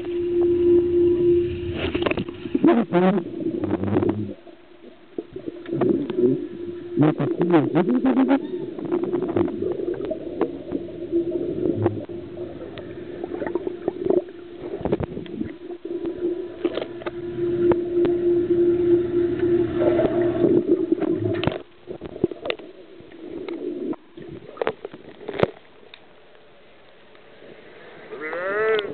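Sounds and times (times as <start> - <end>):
underwater bubbling: 0.0 - 28.1
underwater hum: 0.0 - 28.9.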